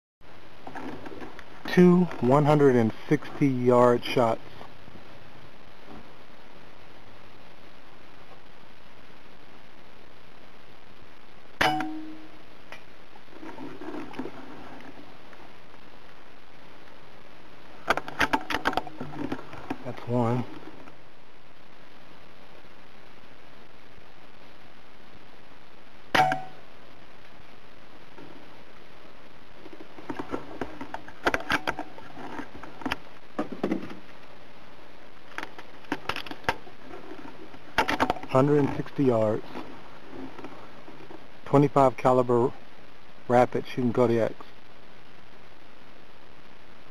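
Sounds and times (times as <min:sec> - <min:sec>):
steady low hiss: 0:00.2 - 0:46.9.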